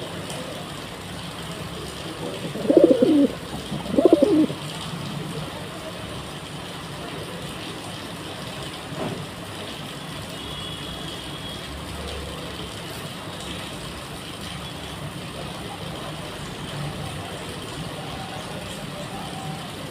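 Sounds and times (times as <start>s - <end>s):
street background noise: 0.0s - 19.9s.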